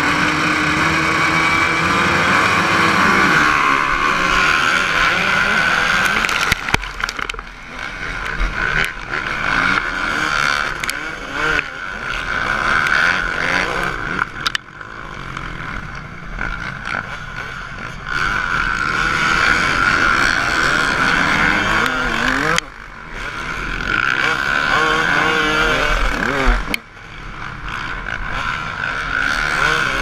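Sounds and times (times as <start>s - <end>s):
dirt bike engine revving: 0.0s - 30.0s
other dirt bikes running: 0.0s - 30.0s.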